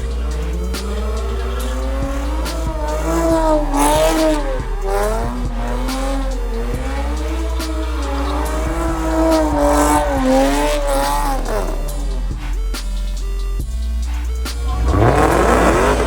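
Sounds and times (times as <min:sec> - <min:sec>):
tyres squealing: 0:00.0 - 0:16.0.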